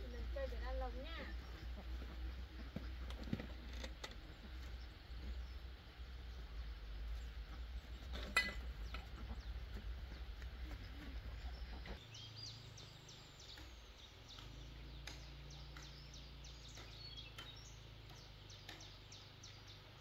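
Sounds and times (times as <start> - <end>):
low background rumble: 0.0 - 20.0
small birds chirping: 0.0 - 20.0.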